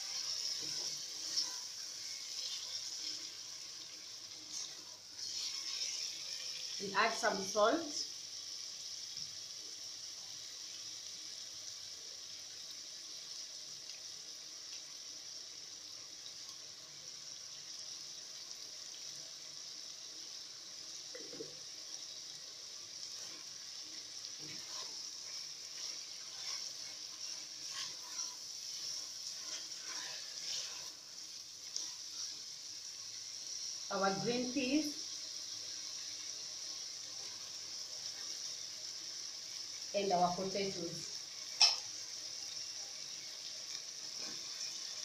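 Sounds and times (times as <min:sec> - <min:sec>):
food sizzling in a pot: 0:00.0 - 0:45.0.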